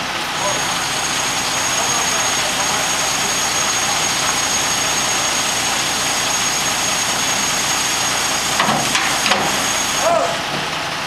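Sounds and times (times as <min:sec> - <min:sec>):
crane truck engine and hydraulics: 0:00.0 - 0:11.0.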